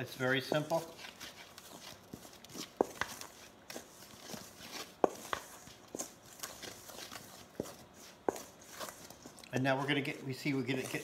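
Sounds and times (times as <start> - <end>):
spoon scraping dough: 0.0 - 11.0.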